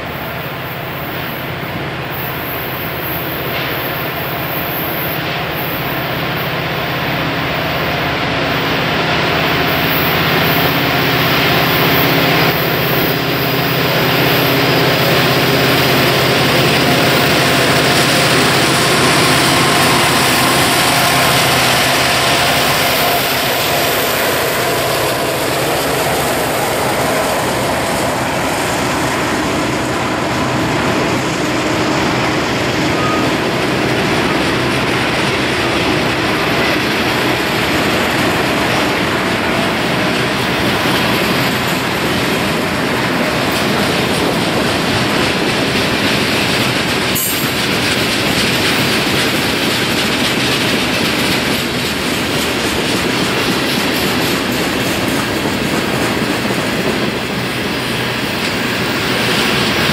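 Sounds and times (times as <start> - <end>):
diesel locomotive engine drone: 0.0 - 59.9
freight cars rumbling on rails: 0.0 - 59.9.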